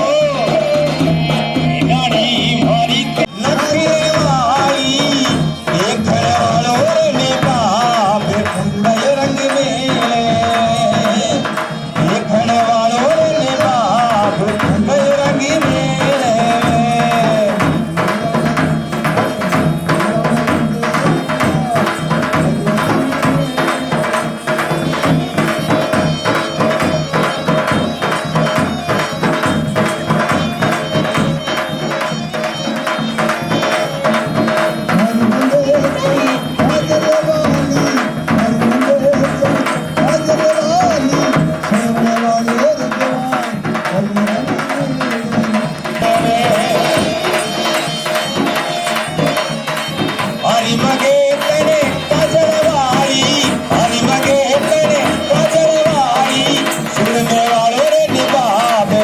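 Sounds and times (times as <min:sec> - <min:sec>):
hand drums: 0:00.0 - 0:59.0
held tone: 0:00.0 - 0:59.0
jingling percussion: 0:00.0 - 0:59.0
person singing wavering melody: 0:00.0 - 0:59.0.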